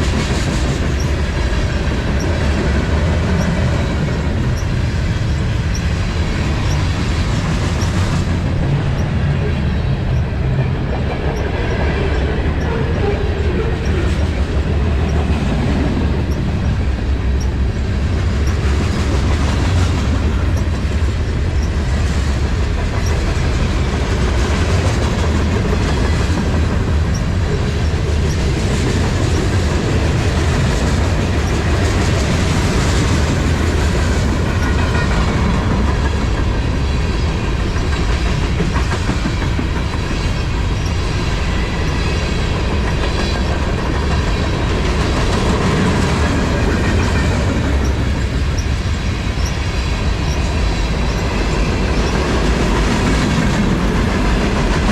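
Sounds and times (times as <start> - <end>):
freight train rumbling past: 0.0 - 54.9
wheels clacking over rail joints: 0.0 - 54.9.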